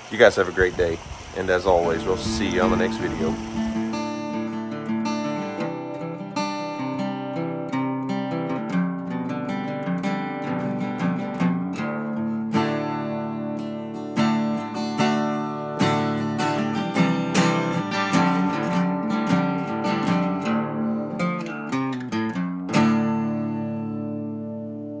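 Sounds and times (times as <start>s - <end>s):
acoustic guitar picking and strumming: 0.0s - 25.0s.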